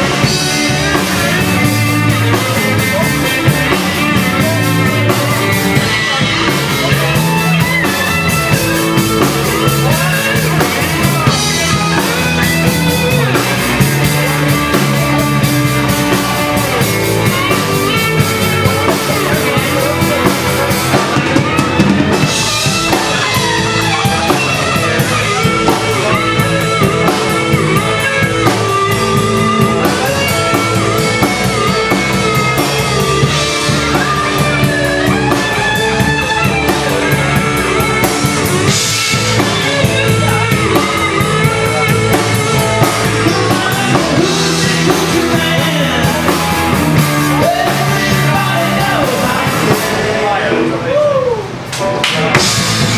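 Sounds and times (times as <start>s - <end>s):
bending lead guitar notes: 0.0s - 52.9s
live rock band playing: 0.0s - 52.9s.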